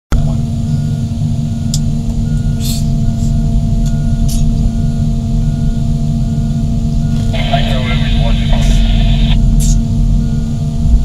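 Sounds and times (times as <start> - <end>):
excavator diesel engines droning: 0.2 - 11.0.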